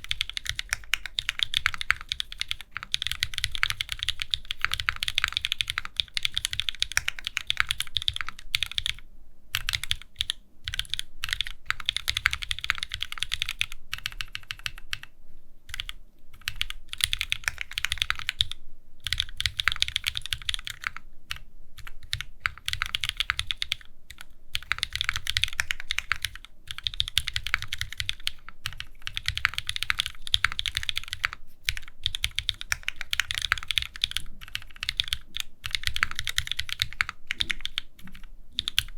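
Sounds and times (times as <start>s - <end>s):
mechanical keyboard typing: 0.0s - 9.0s, 9.6s - 15.1s, 15.7s - 38.9s.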